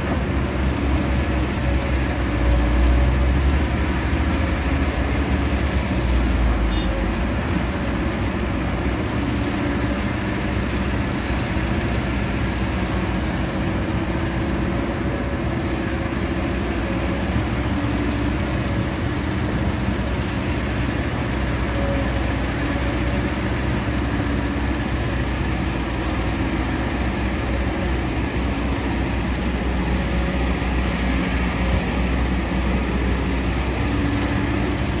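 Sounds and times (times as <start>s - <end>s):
excavator engine droning: 0.0s - 35.0s.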